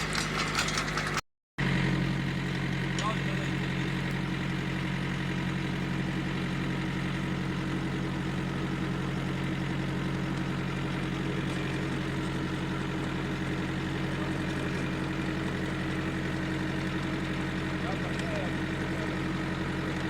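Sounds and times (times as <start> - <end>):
engine running with low hum: 0.0 - 20.0.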